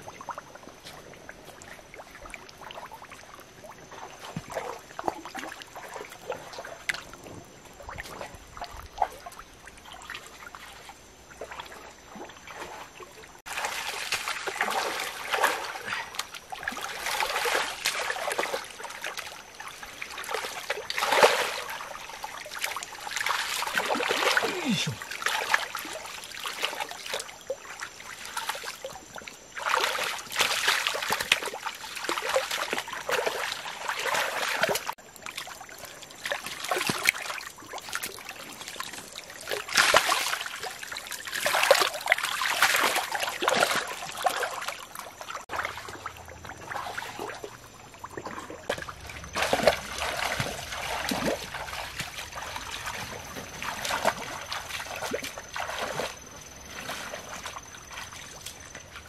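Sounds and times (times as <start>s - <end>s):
muddy water splashing: 0.0s - 59.0s.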